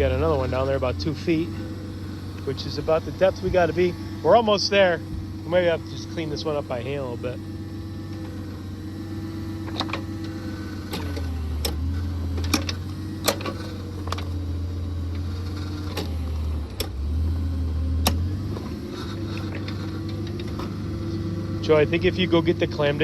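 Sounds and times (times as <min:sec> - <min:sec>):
auger engine running: 0:00.0 - 0:23.0.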